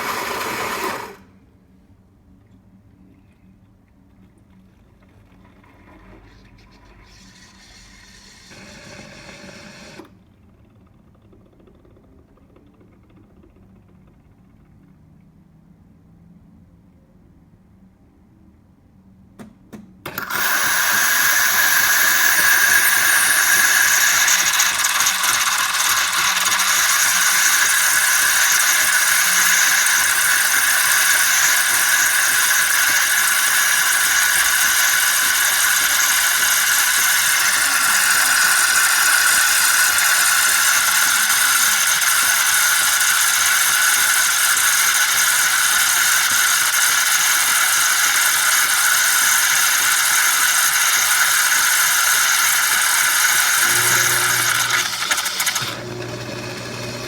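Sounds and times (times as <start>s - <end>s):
coffee machine whirring and rattling: 0.0s - 1.3s, 4.6s - 14.8s, 20.1s - 57.0s.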